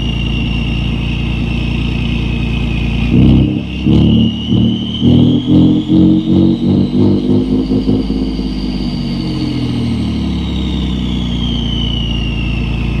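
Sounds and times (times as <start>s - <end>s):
car engine revving: 0.0s - 13.0s
high turbo whistle: 0.0s - 13.0s.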